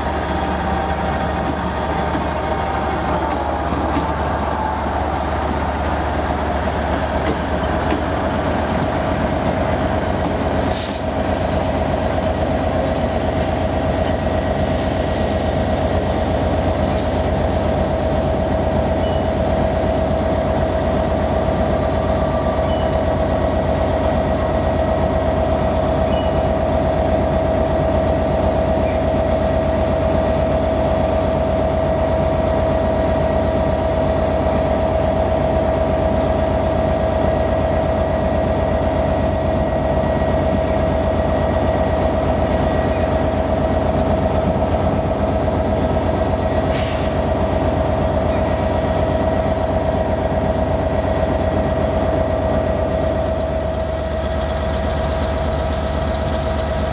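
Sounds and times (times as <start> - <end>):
train diesel engines idling: 0.0 - 56.9.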